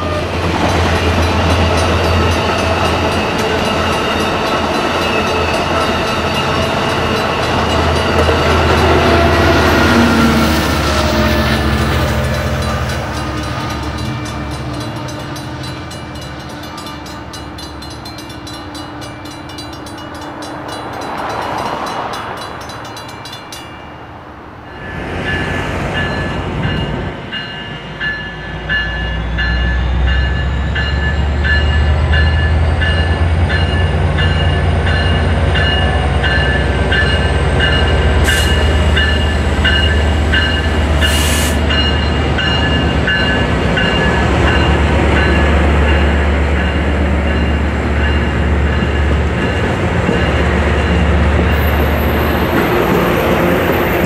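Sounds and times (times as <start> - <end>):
crossing warning bell dinging: 0.0 - 54.0
train engine and wheels rumbling: 0.0 - 54.0.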